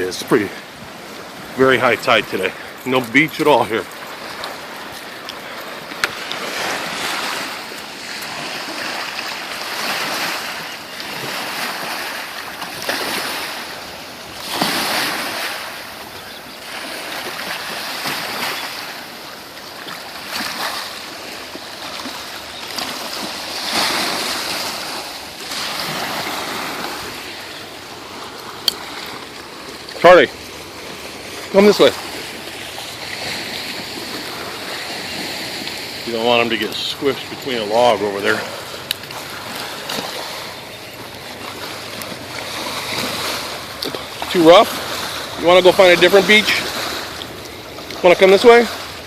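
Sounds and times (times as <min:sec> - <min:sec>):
gusting wind: 0:00.0 - 0:49.0
waves breaking on shore: 0:00.0 - 0:49.0.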